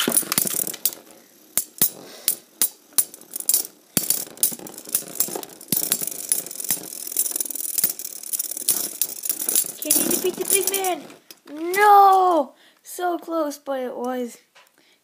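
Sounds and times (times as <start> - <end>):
spinning tops clacking together: 0.0 - 12.4
spinning tops grinding rattle: 0.0 - 12.4.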